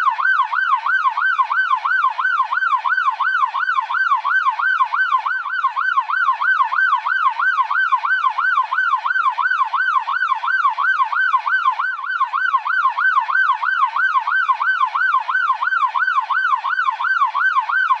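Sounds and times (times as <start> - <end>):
police siren yelping: 0.0 - 18.0.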